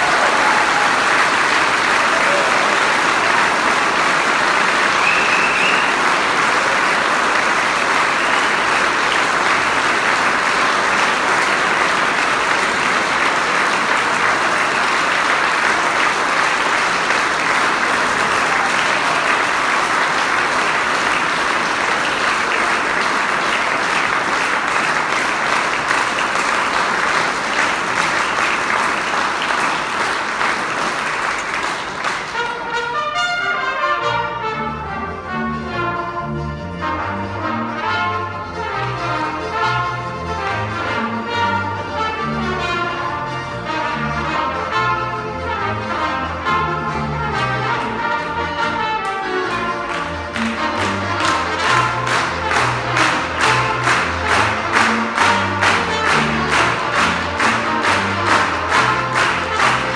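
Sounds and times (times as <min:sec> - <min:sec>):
audience applauding: 0:00.0 - 0:33.0, 0:38.8 - 0:59.9.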